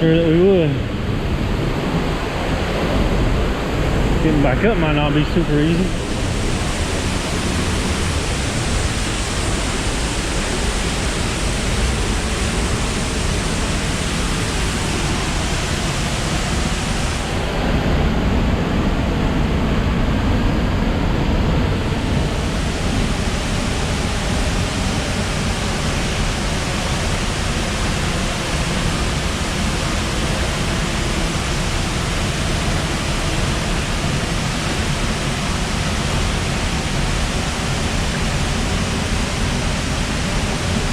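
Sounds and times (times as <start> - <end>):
waterfall rushing: 0.0 - 18.5, 21.7 - 40.9.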